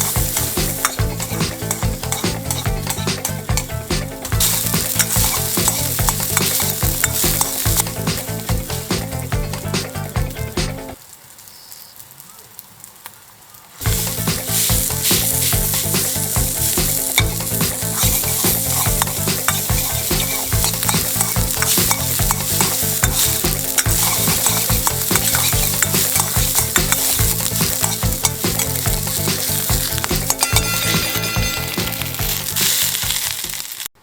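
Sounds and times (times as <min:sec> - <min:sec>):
spatula scraping a wok: 0:00.0 - 0:09.8, 0:13.8 - 0:33.9
fried rice sizzling in a wok: 0:00.0 - 0:34.0.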